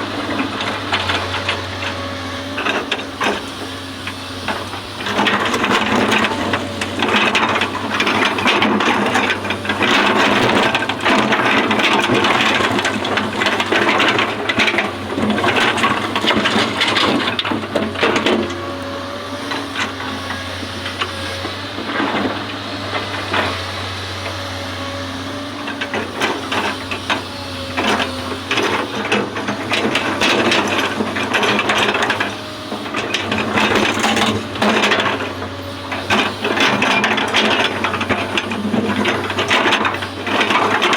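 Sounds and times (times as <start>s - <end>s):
machine rattling and clanking: 0.0s - 24.4s, 25.3s - 40.9s
diesel engine running: 0.0s - 40.9s
hydraulic whine: 0.0s - 40.9s.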